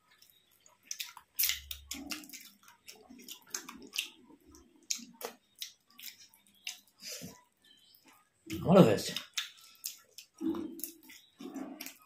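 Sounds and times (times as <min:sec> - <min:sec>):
wet chewing and lip smacks: 0:00.0 - 0:12.0.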